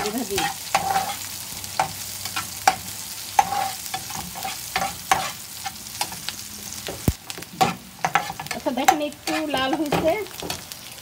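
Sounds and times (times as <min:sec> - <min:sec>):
spatula scraping pan: 0:00.0 - 0:06.2, 0:07.6 - 0:10.6
onions sizzling in oil: 0:00.0 - 0:11.0.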